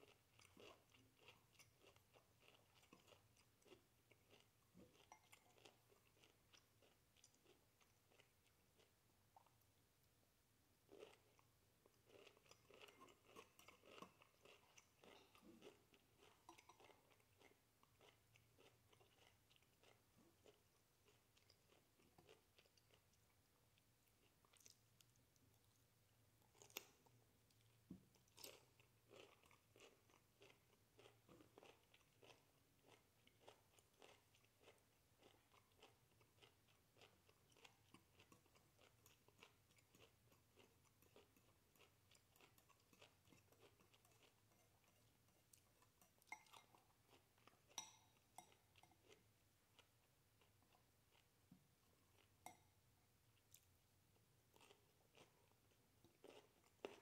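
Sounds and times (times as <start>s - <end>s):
chewing: 0.0s - 9.6s, 10.9s - 52.7s, 54.5s - 57.0s.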